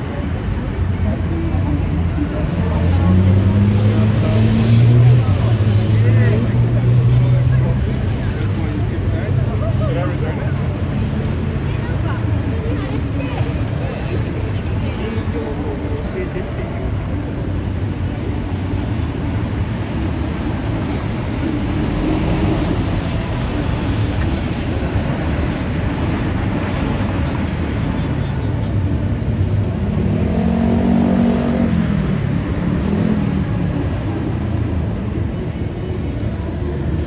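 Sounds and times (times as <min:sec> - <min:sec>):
passers-by talking: 0:00.0 - 0:37.0
road traffic noise: 0:00.0 - 0:37.0.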